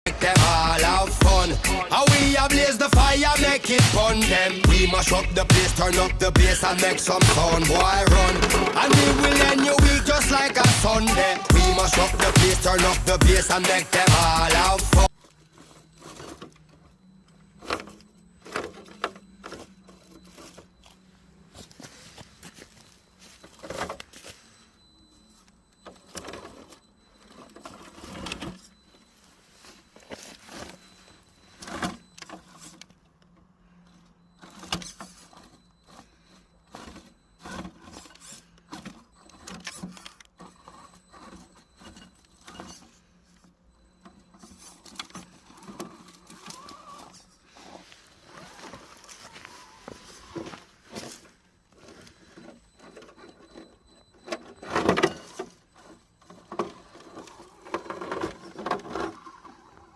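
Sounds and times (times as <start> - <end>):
electric motor and gears whirring: 0.1 - 59.9.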